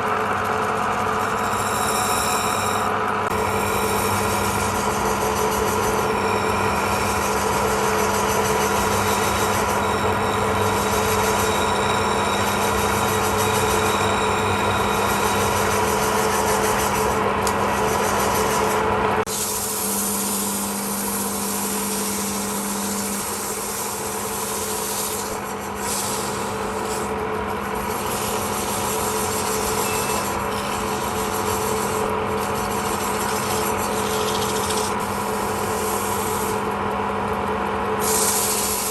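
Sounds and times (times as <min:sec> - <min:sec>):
tool scraping spinning wood: 0:00.0 - 0:38.9
wood lathe motor hum: 0:00.0 - 0:38.9.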